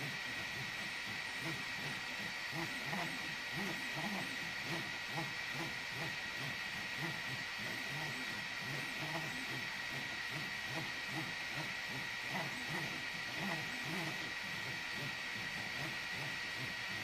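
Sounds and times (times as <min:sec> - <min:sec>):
cooling fan whine: 0:00.0 - 0:17.0
stepper motors whirring: 0:00.0 - 0:17.0.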